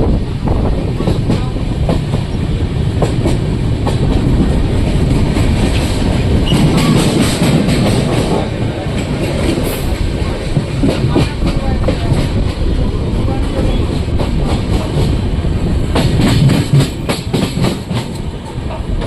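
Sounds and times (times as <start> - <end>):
train rumble: 0.0 - 19.0
wheels clacking over rail joints: 1.0 - 19.0.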